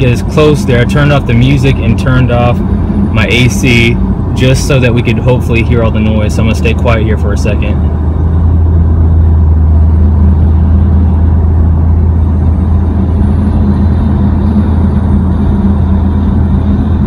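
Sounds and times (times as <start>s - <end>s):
road and wind noise inside car: 0.0s - 17.0s.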